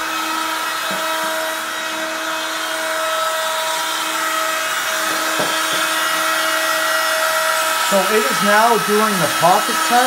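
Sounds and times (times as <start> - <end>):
router spindle high whine: 0.0 - 10.0.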